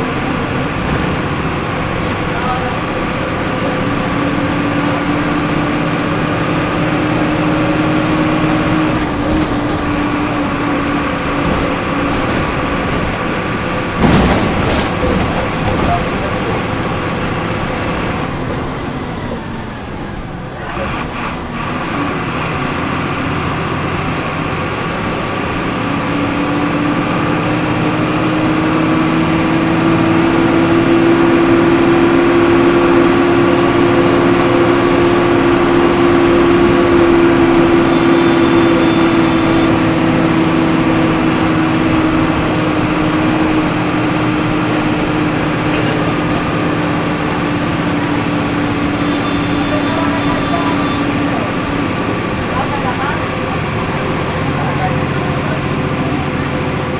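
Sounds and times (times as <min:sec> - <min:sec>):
bus engine running: 0:00.0 - 0:56.9.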